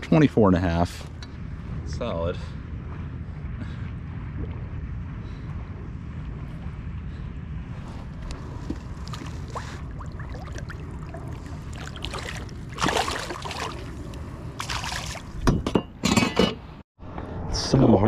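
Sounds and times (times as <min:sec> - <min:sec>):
wind rumble on microphone: 0:00.0 - 0:15.8
water splashing and sloshing: 0:00.0 - 0:16.3.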